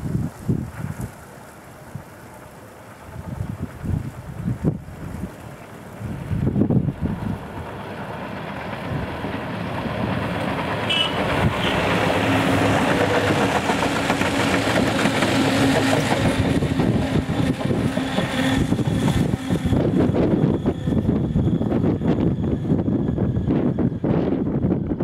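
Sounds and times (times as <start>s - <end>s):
train wheels on rails: 0.0s - 25.0s
diesel train engines droning: 0.7s - 25.0s.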